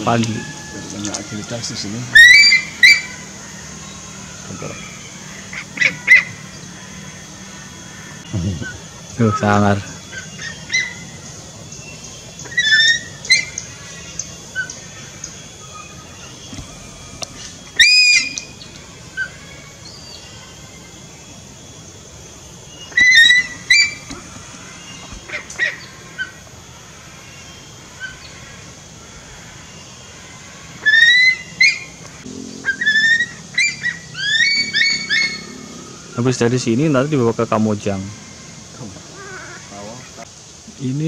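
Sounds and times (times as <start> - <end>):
eagle whistled calls: 0.0 - 40.3.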